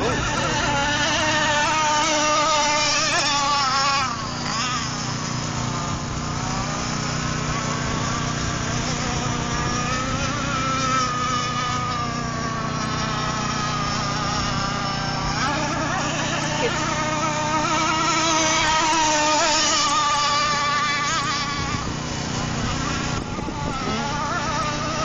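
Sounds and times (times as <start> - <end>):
model speedboat engine whining: 0.0 - 25.0.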